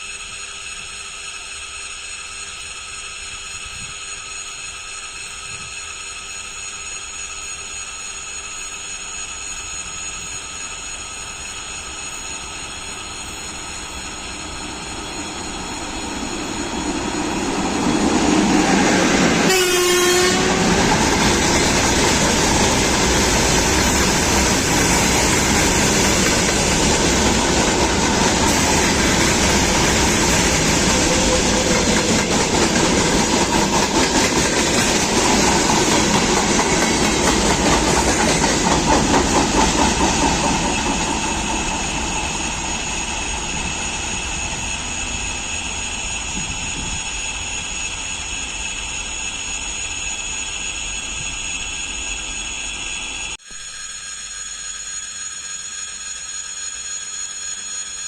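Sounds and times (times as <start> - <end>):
train passing at speed: 0.0 - 53.4.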